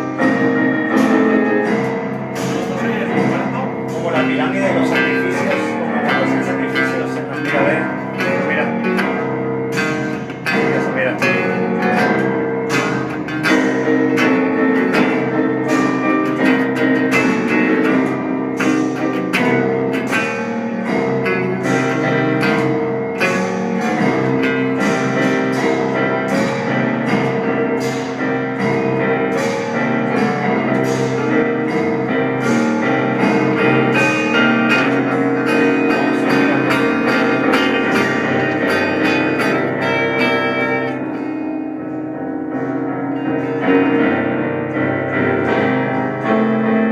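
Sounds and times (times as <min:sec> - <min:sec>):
improvised instrumental music: 0:00.0 - 0:46.9.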